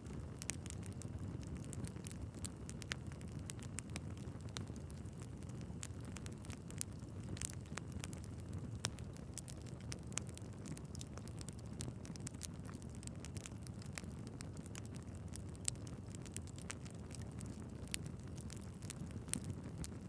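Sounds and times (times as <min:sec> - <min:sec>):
fire crackling with sharp pops: 0:00.0 - 0:20.0
low rumble of flames: 0:00.0 - 0:20.0.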